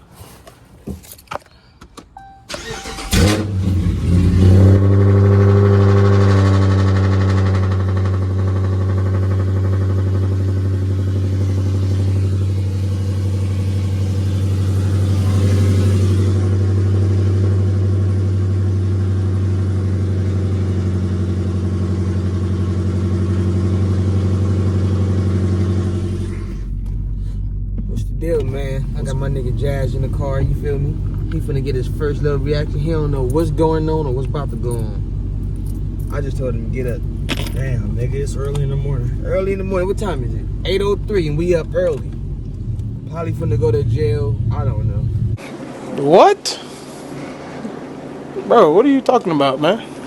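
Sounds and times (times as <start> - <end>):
car engine starting and idling: 2.2 - 46.0.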